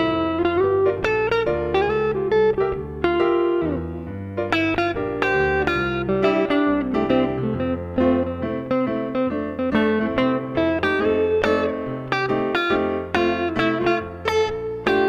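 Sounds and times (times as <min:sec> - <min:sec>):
bass line: 0:00.0 - 0:15.0
plucked guitar notes: 0:00.0 - 0:15.0.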